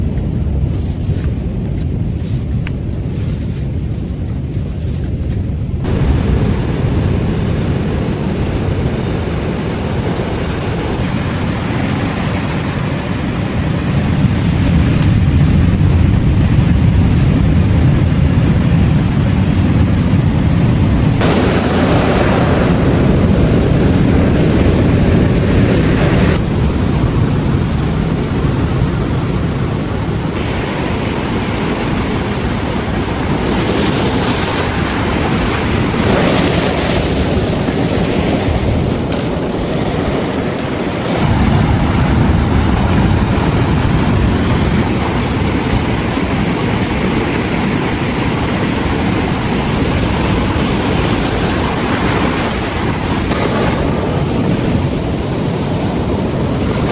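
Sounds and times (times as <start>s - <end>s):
ocean waves breaking: 0.0s - 56.9s
wind buffeting microphone: 0.0s - 56.9s.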